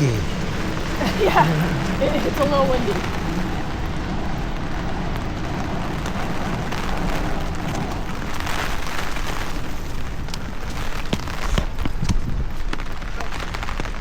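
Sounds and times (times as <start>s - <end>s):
rain hiss: 0.0s - 14.0s
wind buffeting the microphone: 0.0s - 14.0s.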